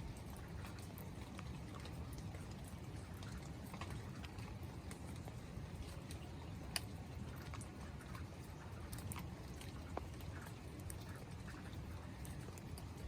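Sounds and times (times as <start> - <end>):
raindrops ticking: 0.0 - 13.0.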